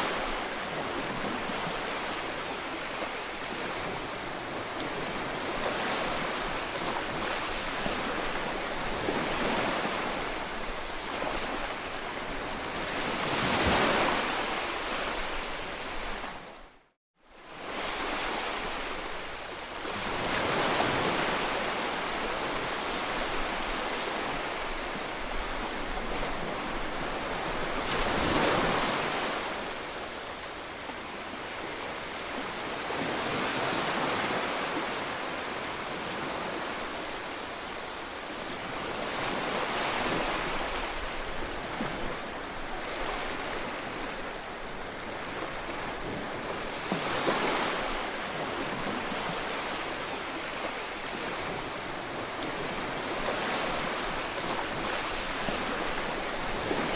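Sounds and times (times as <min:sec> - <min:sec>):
waves washing up a beach: 0:00.0 - 0:56.9.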